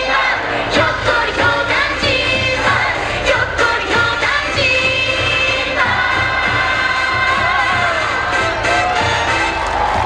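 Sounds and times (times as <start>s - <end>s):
music with steady beat: 0.7s - 10.0s.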